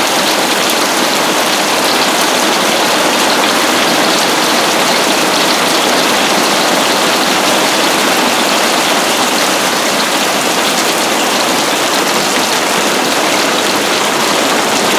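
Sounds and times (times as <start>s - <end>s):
hail pelting a roof: 0.0s - 14.9s.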